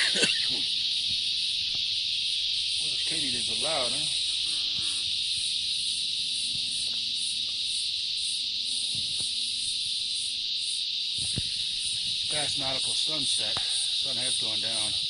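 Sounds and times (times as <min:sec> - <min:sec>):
insect chirping pulse: 0:00.0 - 0:15.0
insects buzzing: 0:00.0 - 0:15.0.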